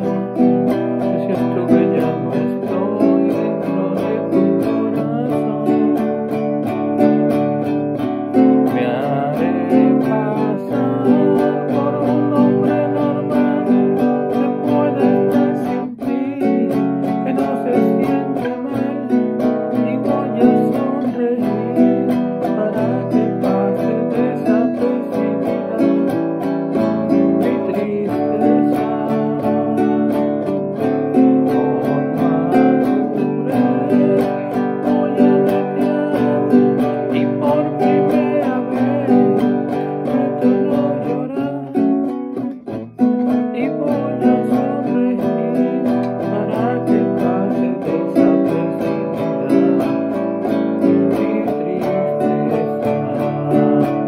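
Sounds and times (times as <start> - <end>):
nylon-string guitar strummed: 0.0 - 54.0.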